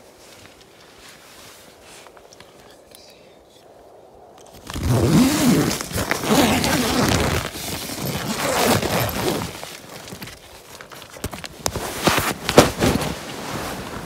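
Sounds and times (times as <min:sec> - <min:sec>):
nylon tent fabric rustling: 0:00.0 - 0:02.2, 0:04.5 - 0:14.0.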